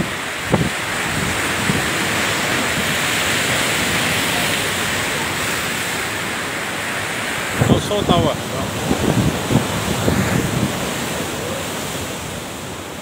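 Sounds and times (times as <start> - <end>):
rough sea waves breaking: 0.0 - 13.0
wind blowing across microphone: 0.0 - 13.0.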